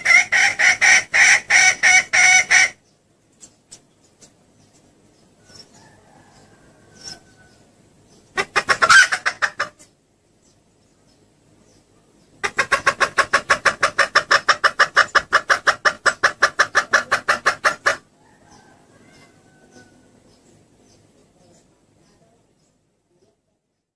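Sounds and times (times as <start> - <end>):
hen clucking: 0.0 - 10.0, 12.2 - 21.8.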